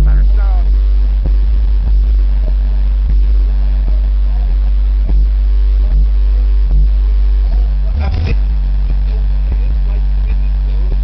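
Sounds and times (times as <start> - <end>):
bass-heavy music: 0.0 - 11.0.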